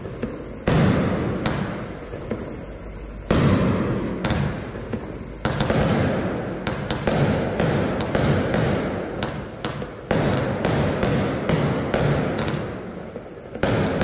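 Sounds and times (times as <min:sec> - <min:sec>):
fireworks launch and burst bangs: 0:00.0 - 0:02.6, 0:03.3 - 0:14.0.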